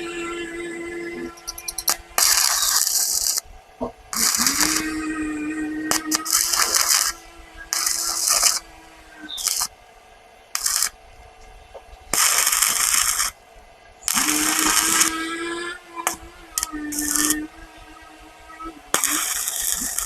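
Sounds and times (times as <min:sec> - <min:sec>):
harsh hissing grinding bursts: 0:00.0 - 0:09.8, 0:10.5 - 0:11.0, 0:12.1 - 0:13.4, 0:14.0 - 0:20.0
small electric motor humming: 0:00.0 - 0:20.0.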